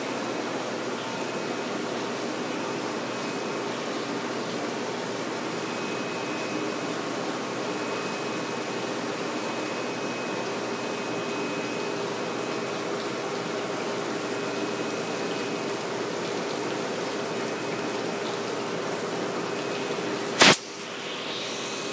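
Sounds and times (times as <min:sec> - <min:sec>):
running water rushing: 0:00.1 - 0:21.9.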